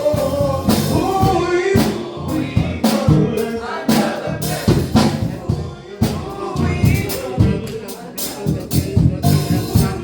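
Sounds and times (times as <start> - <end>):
drum kit strikes: 0.0 - 10.0
live gospel band music: 0.0 - 10.0.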